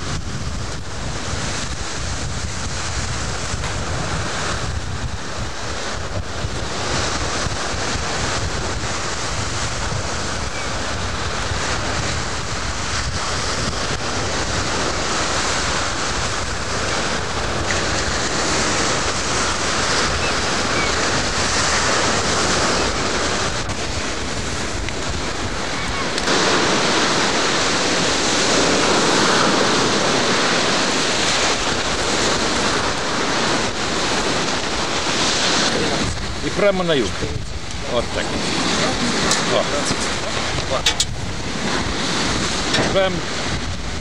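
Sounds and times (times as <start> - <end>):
sea surf washing onto beach: 0.0 - 44.0
wind buffeting microphone: 0.0 - 44.0.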